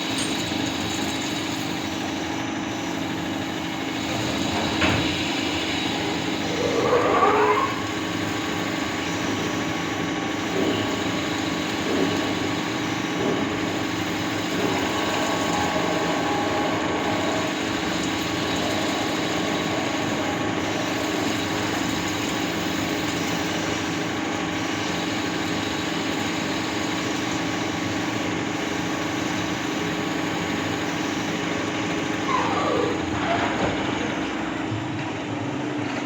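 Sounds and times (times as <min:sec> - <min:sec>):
lathe humming and whining: 0:00.0 - 0:36.0.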